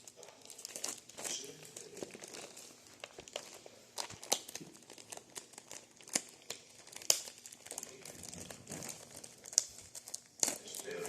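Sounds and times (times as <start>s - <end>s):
plastic and paper crinkling: 0.0s - 11.0s.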